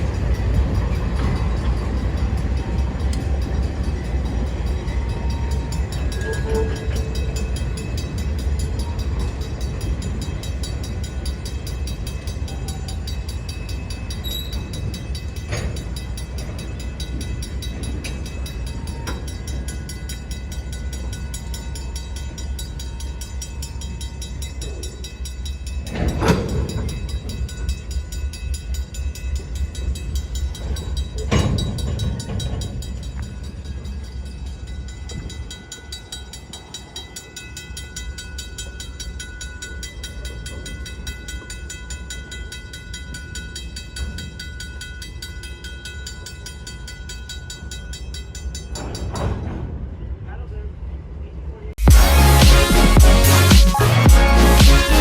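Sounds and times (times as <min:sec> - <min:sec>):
train wheels rumbling on rail: 0:00.0 - 0:51.8.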